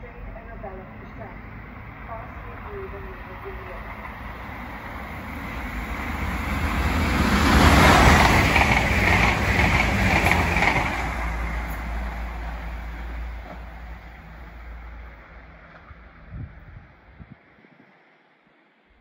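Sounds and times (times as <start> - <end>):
diesel train passing: 0.0 - 17.2.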